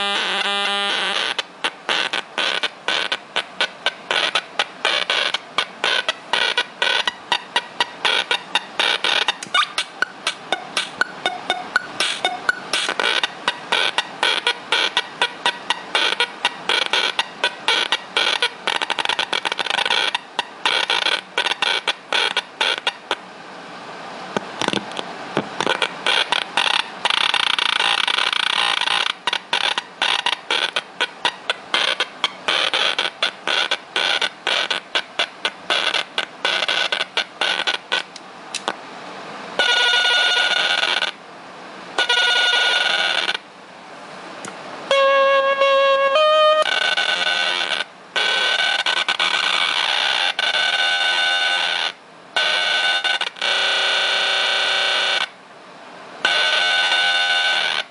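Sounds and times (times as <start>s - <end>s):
distorted electronic keyboard buzz: 0.0s - 23.2s, 24.6s - 38.7s, 39.6s - 41.2s, 42.0s - 43.4s, 44.9s - 55.4s, 56.2s - 57.9s
held buzzy tones: 0.0s - 23.3s, 24.5s - 38.8s, 39.6s - 41.2s, 41.9s - 43.5s, 44.4s - 55.4s, 56.2s - 57.9s.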